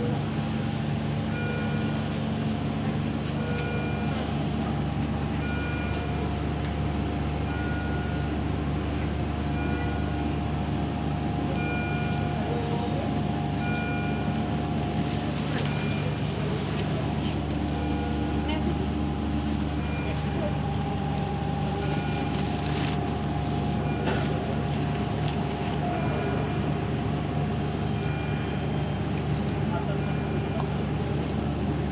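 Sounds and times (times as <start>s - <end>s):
low machine hum: 0.0s - 31.9s.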